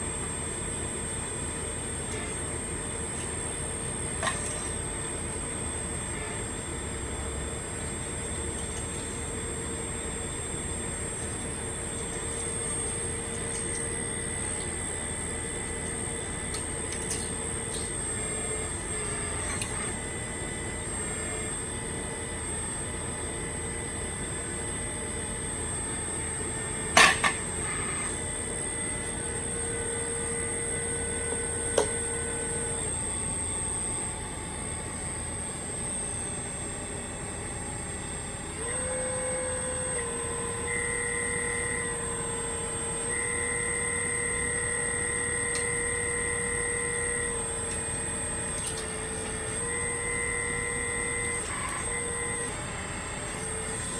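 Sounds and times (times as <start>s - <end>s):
hydraulic drive whine: 0.0s - 53.9s.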